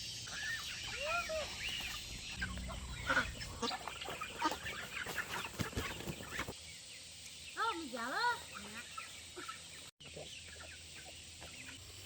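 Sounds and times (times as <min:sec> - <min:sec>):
poultry calling: 0:00.2 - 0:06.6, 0:08.3 - 0:12.0.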